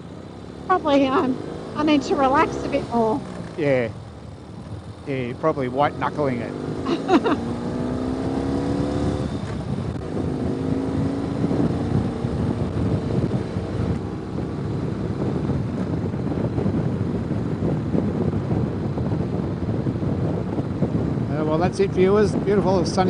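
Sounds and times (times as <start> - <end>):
motorcycle engine running: 0.0 - 23.0
wind buffeting microphone: 0.2 - 23.0.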